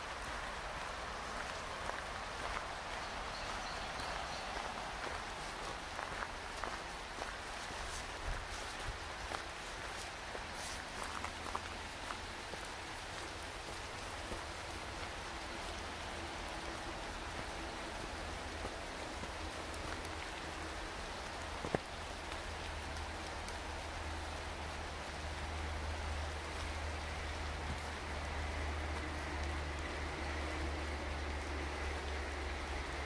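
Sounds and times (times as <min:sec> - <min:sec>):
water hissing like rain on leaves: 0:00.0 - 0:33.0.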